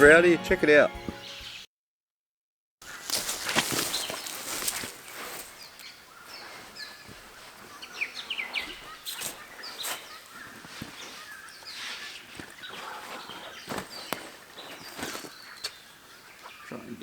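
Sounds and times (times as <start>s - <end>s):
birds chirping: 0.0s - 1.7s, 2.8s - 17.0s.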